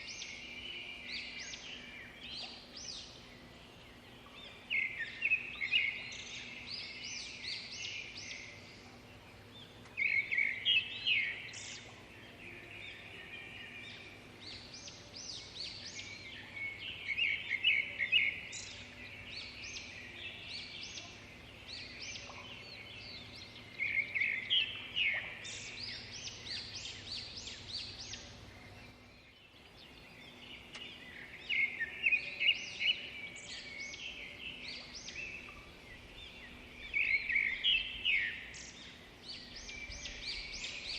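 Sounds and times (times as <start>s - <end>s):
faint steady hum: 0.0s - 40.9s
small birds chirping: 0.0s - 40.9s.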